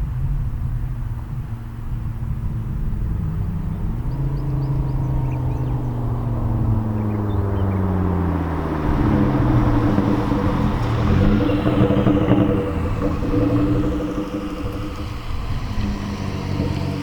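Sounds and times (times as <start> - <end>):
car exhaust note revving: 0.0 - 17.0.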